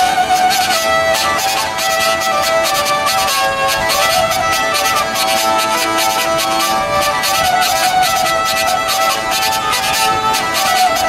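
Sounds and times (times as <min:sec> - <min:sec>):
hurdy-gurdies playing a tune: 0:00.0 - 0:11.0.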